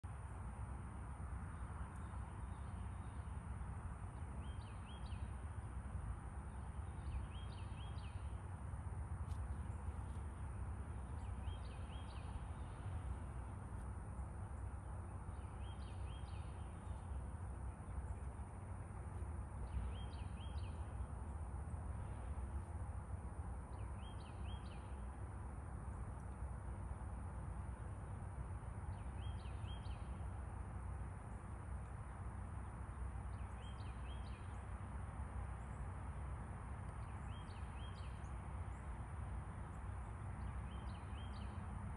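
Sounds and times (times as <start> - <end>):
faint high-pitched whine: 0.0 - 41.9
low rumble and hiss: 0.0 - 41.9.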